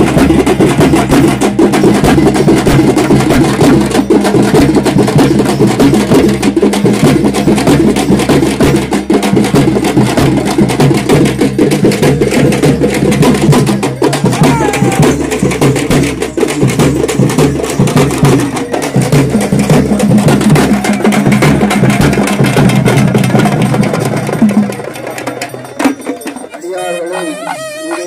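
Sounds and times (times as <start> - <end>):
frame drums beaten with sticks: 0.0 - 28.0.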